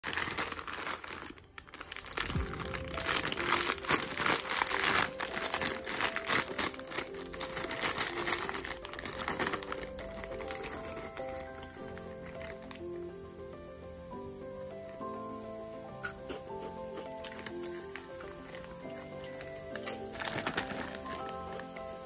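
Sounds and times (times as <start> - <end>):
plastic packet crinkling: 0.0 - 13.1, 16.5 - 22.0
simple melody background music: 0.0 - 22.0.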